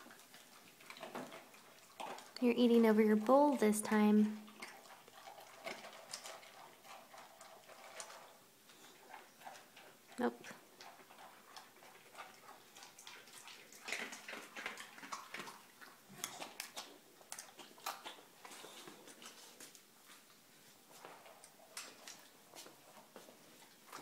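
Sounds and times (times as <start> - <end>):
dogs crunching kibble: 0.0 - 24.0
dogs lapping water: 0.0 - 24.0.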